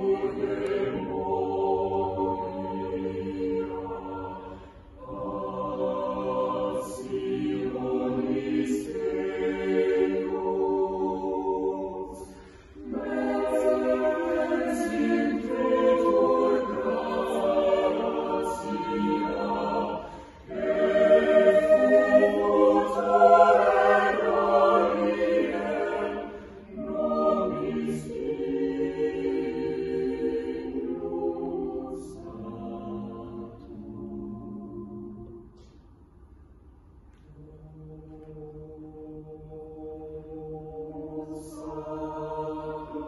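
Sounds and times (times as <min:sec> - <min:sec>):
choir singing unaccompanied: 0:00.0 - 0:35.8, 0:37.3 - 0:43.0.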